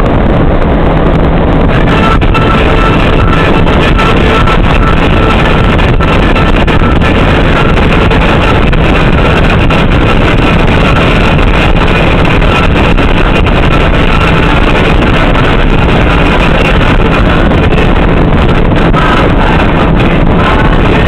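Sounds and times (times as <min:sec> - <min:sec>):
vehicle road and engine noise: 0:00.0 - 0:21.0
wind buffeting microphone: 0:00.0 - 0:21.0.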